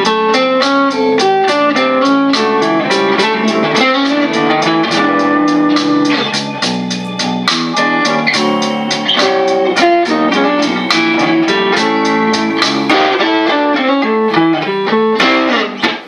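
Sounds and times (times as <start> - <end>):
blues backing track: 0.0 - 16.0
electric guitar blues lead: 0.0 - 16.0.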